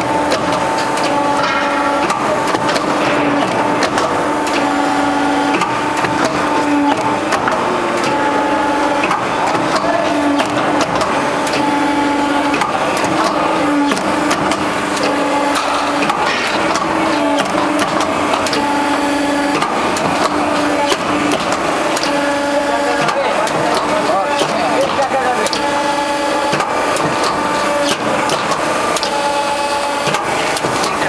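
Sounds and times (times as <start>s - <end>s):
machine hum: 0.0s - 31.0s
machine mechanical clatter: 0.0s - 31.0s.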